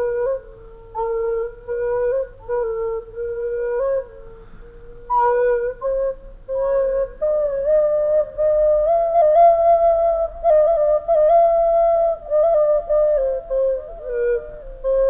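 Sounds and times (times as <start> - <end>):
slow solo flute melody: 0.0 - 15.0.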